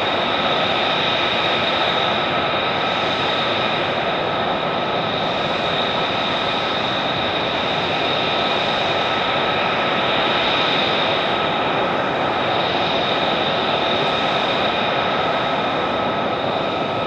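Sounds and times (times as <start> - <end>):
jet engine idling: 0.0 - 17.0.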